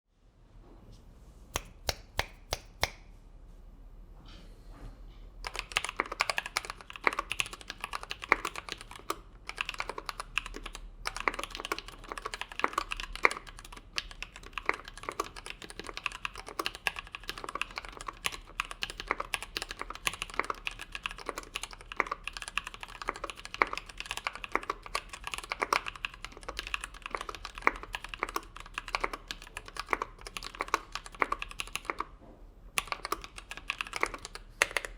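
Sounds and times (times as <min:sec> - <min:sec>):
typing on mechanical keyboard: 0:05.4 - 0:32.2, 0:32.8 - 0:34.9.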